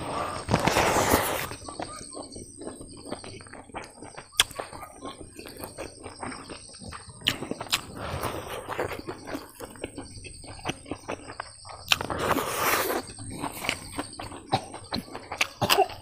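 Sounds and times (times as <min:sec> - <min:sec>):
person chewing and lip smacking: 0:00.1 - 0:16.0.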